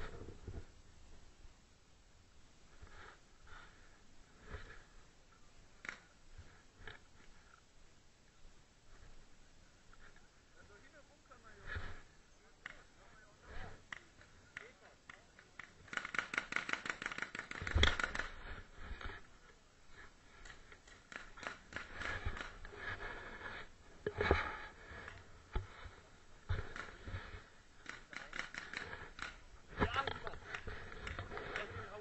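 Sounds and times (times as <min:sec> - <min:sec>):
rustling and clicking on microphone: 0:00.0 - 0:00.8, 0:02.7 - 0:07.6, 0:09.9 - 0:32.0.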